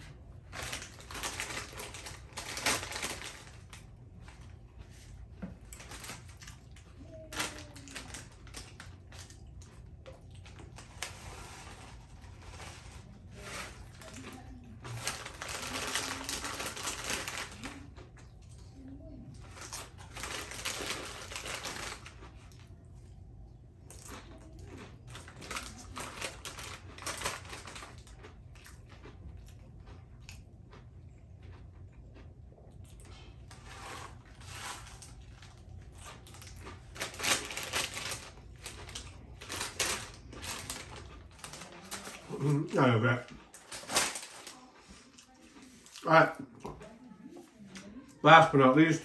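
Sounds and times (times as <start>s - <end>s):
crunchy chewing of food: 0.0s - 48.1s.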